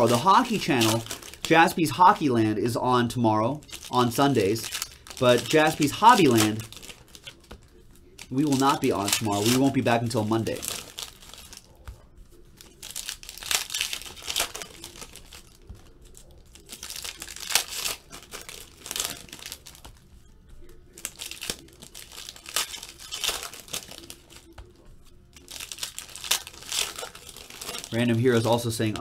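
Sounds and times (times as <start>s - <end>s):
plastic wrappers crinkling and tearing: 0.0s - 29.0s.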